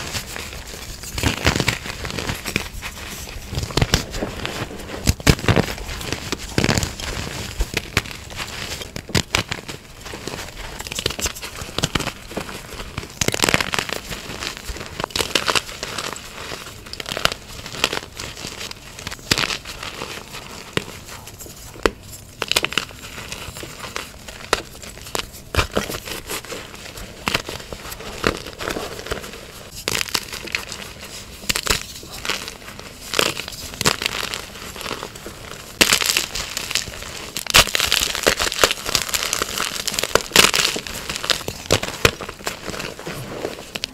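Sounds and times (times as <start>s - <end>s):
chalk crunching and crackling: 0.0s - 43.9s.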